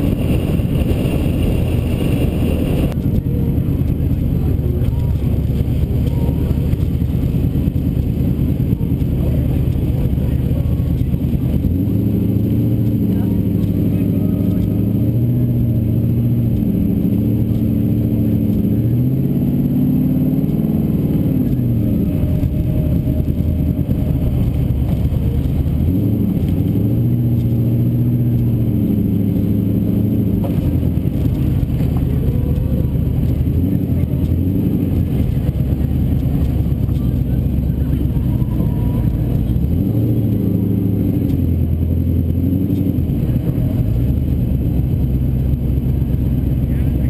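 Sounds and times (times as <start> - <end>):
car engine accelerating: 0.0 - 47.0
road and wind noise: 0.0 - 47.0.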